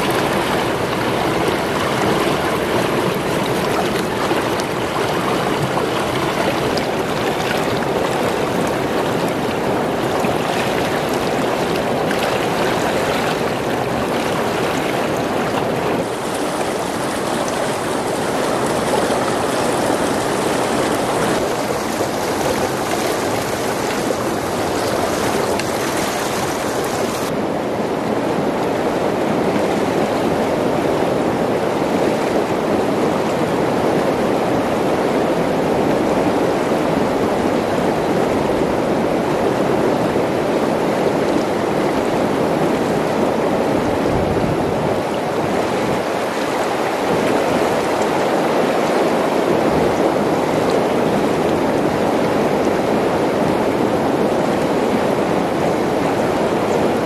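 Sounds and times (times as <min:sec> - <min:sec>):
stream flowing over stones: 0:00.0 - 0:30.6, 0:31.5 - 0:57.0.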